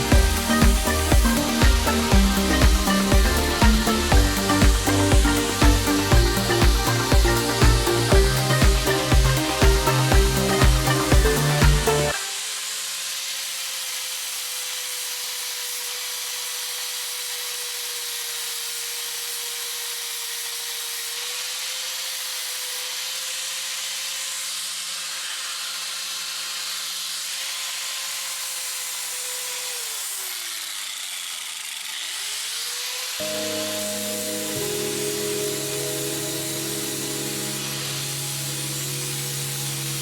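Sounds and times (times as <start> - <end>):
power tool grinding metal: 0.0 - 40.0.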